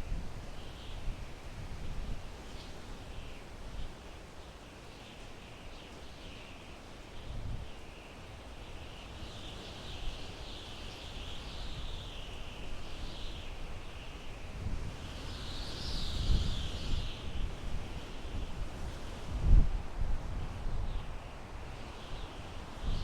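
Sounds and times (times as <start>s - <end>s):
wind through pine trees: 0.0s - 23.0s.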